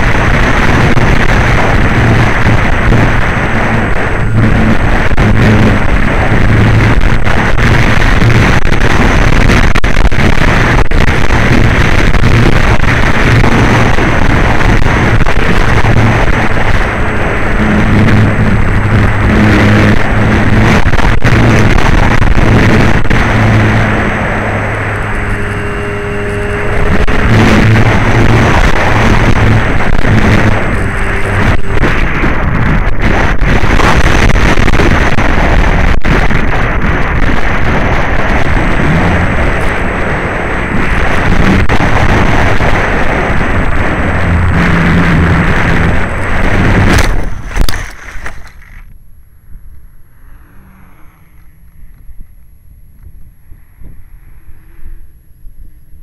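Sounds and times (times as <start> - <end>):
plane hitting grass: 0.0 - 48.9
electric motor and propeller: 0.0 - 49.0, 49.7 - 55.4
wind rushing over microphone: 0.0 - 56.0.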